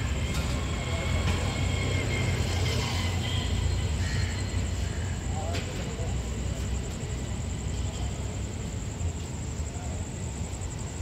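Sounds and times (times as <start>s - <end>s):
distant vehicles rumbling: 0.0s - 11.0s.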